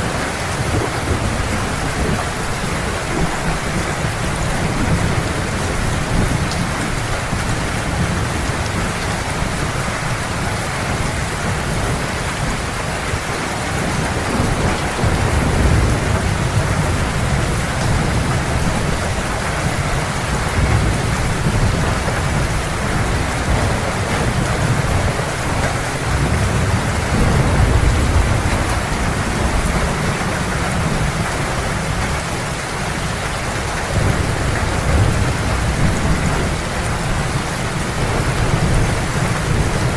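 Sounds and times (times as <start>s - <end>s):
heavy rain: 0.0s - 39.9s
low rolling thunder: 0.0s - 39.9s.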